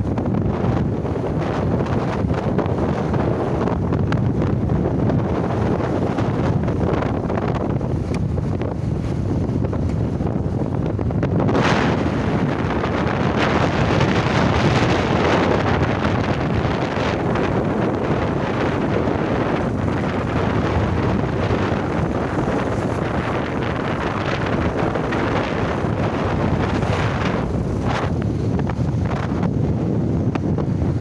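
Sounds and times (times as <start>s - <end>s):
motorcycle running: 0.0s - 31.0s
wind buffeting microphone: 0.0s - 31.0s.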